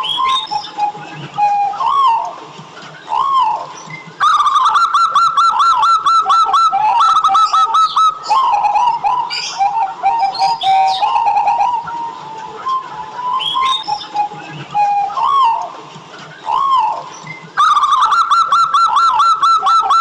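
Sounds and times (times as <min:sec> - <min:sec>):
dove cooing: 0:00.0 - 0:02.4, 0:03.0 - 0:15.8, 0:16.4 - 0:20.0.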